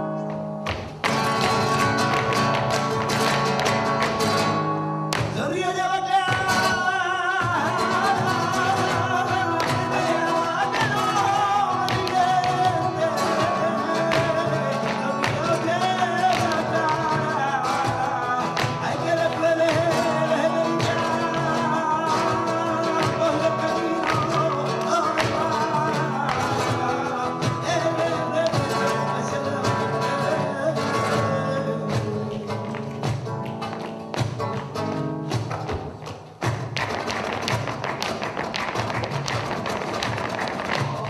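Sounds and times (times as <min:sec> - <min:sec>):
flamenco guitar: 0:00.0 - 0:41.0.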